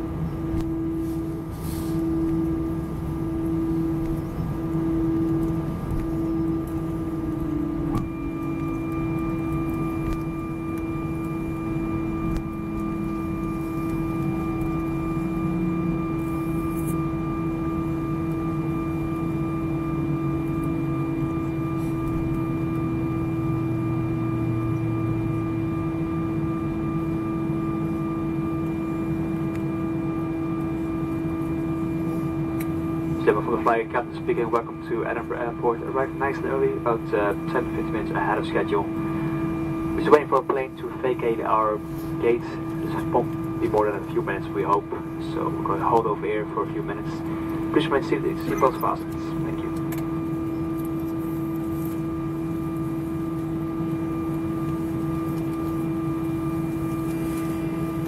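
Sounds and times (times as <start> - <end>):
high steady whine: 0.0 - 58.0
jet engines idling rumble: 0.0 - 58.0.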